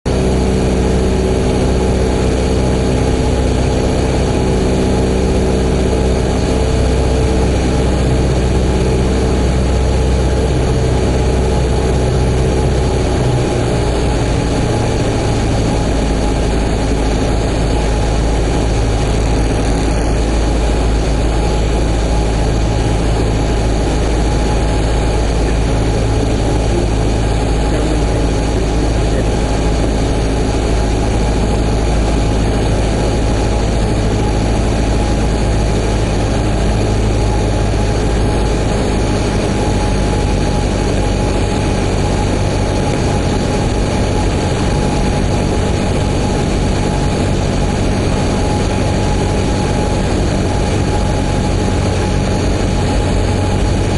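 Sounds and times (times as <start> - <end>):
aircraft engine and propeller: 0.1 - 53.9
wide rushing noise: 0.1 - 53.9.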